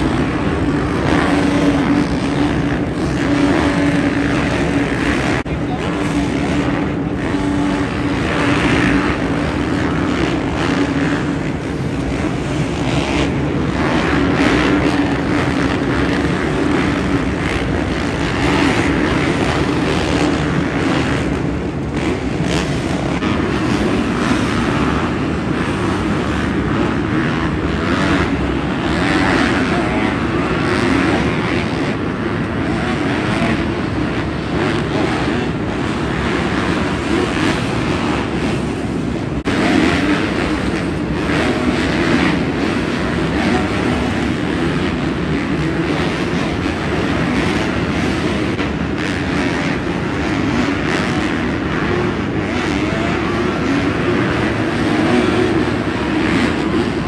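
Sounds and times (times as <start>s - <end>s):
motocross engines revving: 0.0s - 57.0s.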